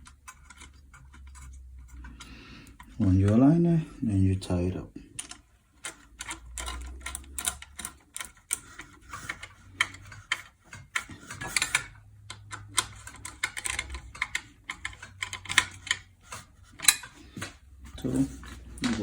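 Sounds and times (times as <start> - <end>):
small metal parts clicking: 0.0 - 3.4, 5.1 - 17.2.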